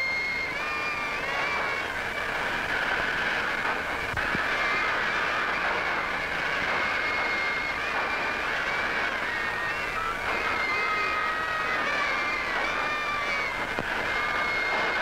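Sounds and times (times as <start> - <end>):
high wavering squeals: 0.0 - 3.5, 4.3 - 15.0.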